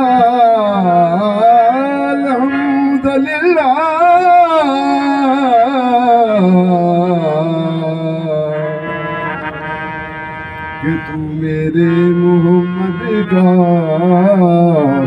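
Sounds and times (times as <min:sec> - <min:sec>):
man singing devotional song: 0:00.0 - 0:09.1, 0:10.8 - 0:15.0
harmonium: 0:00.0 - 0:15.0.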